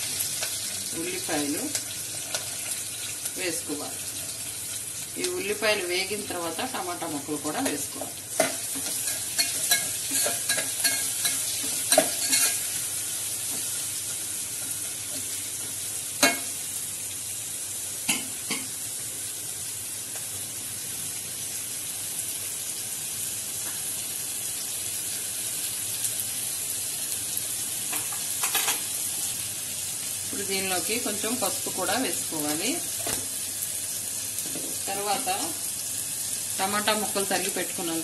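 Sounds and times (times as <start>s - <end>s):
onions sizzling in hot oil: 0.0s - 38.0s.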